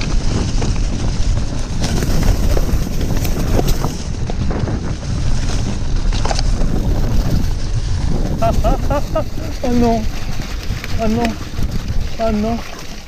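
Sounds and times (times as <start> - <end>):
dense low rumble: 0.0 - 12.6
bike clicks and rattles: 0.0 - 13.0
wind buffeting microphone: 0.0 - 13.0.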